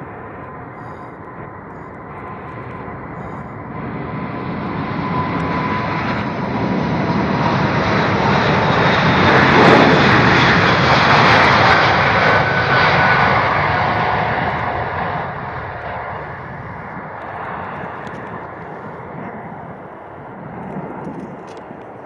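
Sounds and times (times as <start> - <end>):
faint engine whine: 0.0 - 22.0
jet engines passing: 0.0 - 22.0.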